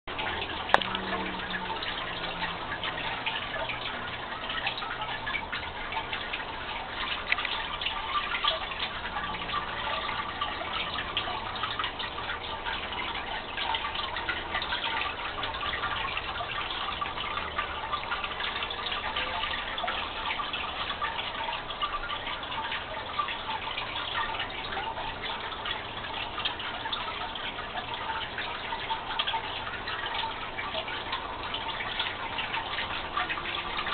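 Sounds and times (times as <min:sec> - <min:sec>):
water trickling and pattering: 0:00.1 - 0:33.9.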